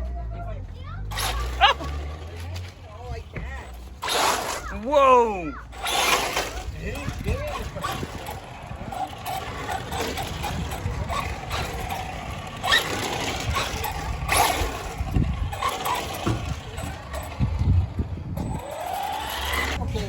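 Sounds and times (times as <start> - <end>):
constant low rumble: 0.0 - 20.0
rc truck motor and tyres surging: 0.0 - 20.0.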